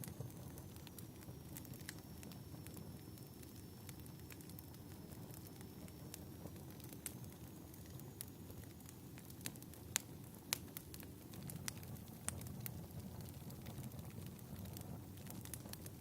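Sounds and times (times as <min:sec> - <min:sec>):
fireplace crackling and popping: 0:00.0 - 0:16.0.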